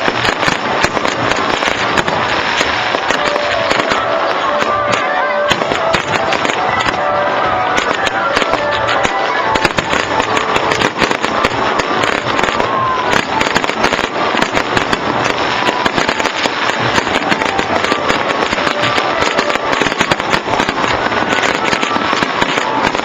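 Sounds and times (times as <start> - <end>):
fireworks crackling and popping: 0.0 - 23.0
music playing: 0.0 - 23.0.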